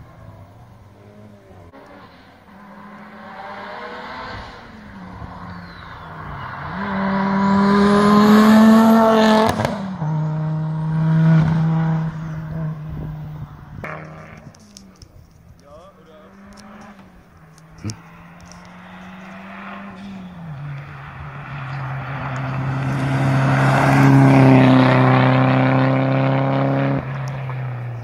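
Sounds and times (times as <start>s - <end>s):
rally car engine revving: 0.0s - 15.1s, 15.8s - 28.0s.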